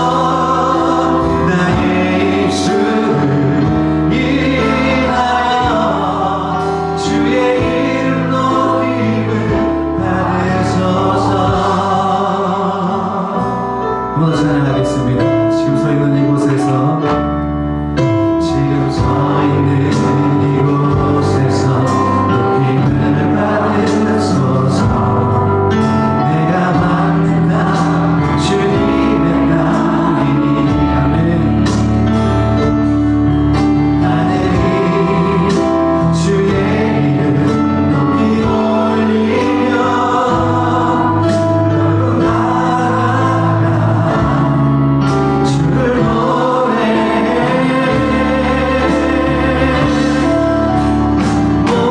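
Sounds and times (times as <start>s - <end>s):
group singing worship song: 0.0s - 14.4s, 18.3s - 51.9s
band accompaniment: 0.0s - 51.9s.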